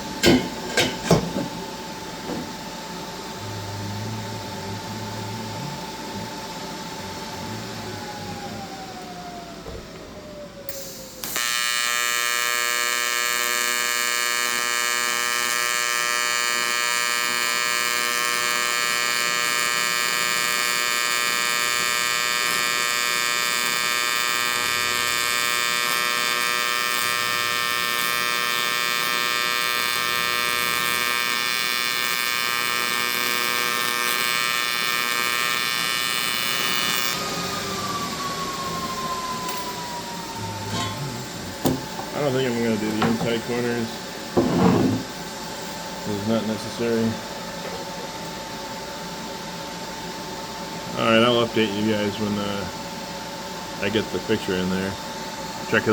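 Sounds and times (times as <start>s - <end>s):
electric grinder whining: 0.0s - 46.1s.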